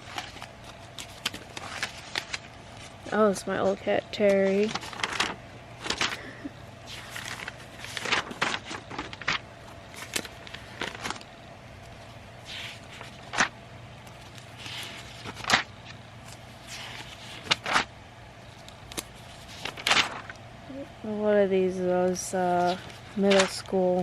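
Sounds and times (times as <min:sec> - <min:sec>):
paper rustling: 0:00.0 - 0:20.4, 0:22.0 - 0:24.0.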